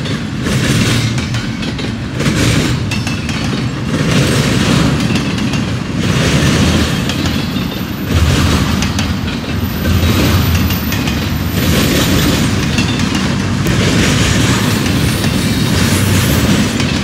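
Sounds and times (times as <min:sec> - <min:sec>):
train rumble: 0:00.0 - 0:17.0
train wheels clattering: 0:00.0 - 0:17.0.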